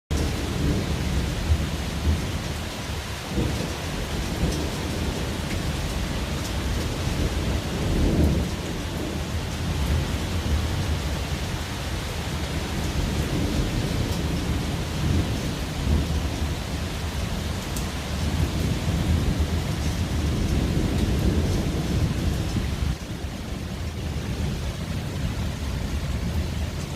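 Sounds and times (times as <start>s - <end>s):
low rolling thunder: 0.1s - 11.6s, 12.2s - 26.9s
steady rain: 0.1s - 26.9s.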